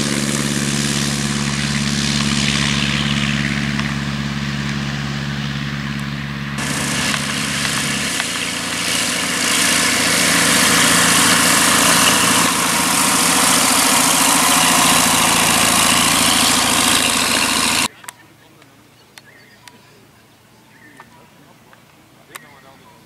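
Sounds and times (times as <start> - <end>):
light aircraft engine and propeller: 0.0 - 23.0.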